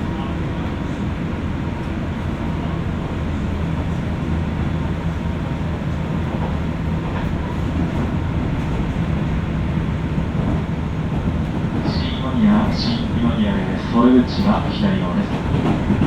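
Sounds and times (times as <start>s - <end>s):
electric train running rumble: 0.0s - 16.0s.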